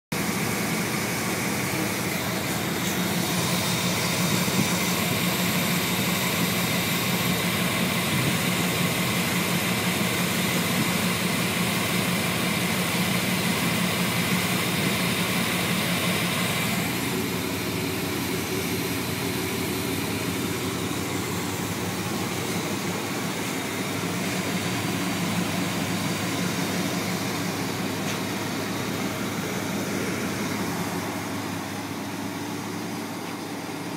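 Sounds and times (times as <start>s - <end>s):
truck engine idling: 0.1s - 33.9s
steady high whine: 0.2s - 33.9s.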